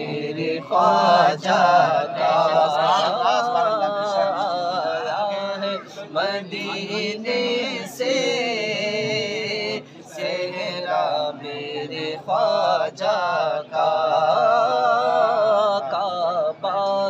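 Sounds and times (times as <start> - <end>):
person singing devotional verse: 0.0 - 17.0.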